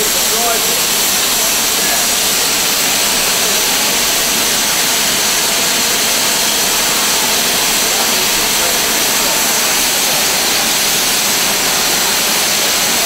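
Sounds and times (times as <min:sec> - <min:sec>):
steam locomotive blowing off steam: 0:00.0 - 0:13.0.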